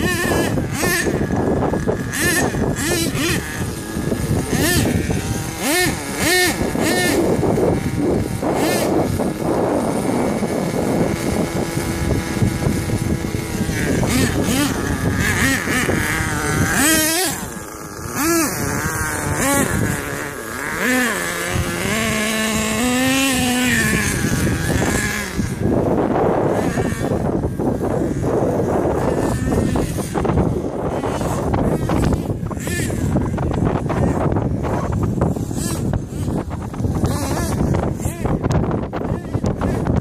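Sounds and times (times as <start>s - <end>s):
toy truck engine revving: 0.0s - 40.0s.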